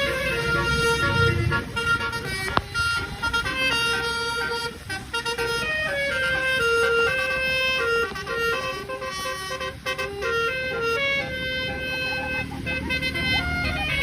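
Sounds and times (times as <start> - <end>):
low engine rumble: 0.0 - 14.0
musical bus horn playing tune: 0.0 - 14.0.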